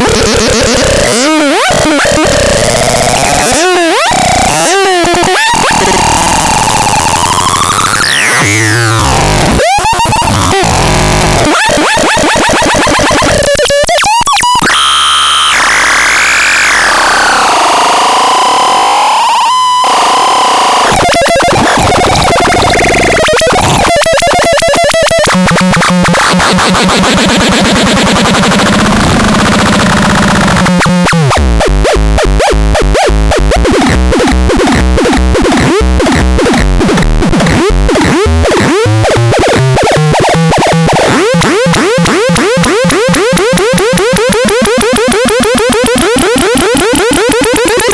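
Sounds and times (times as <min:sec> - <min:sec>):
harsh synthesizer noise: 0:00.0 - 0:47.9.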